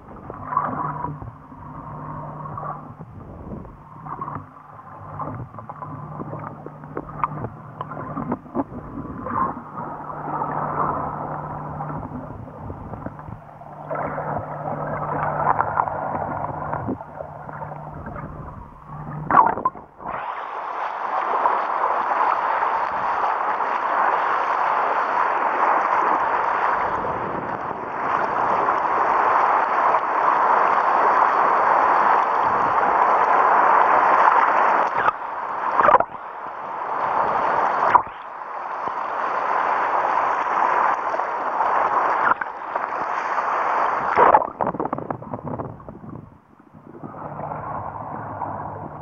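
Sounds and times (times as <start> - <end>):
underwater churning water and bubbles: 0.0 - 49.0.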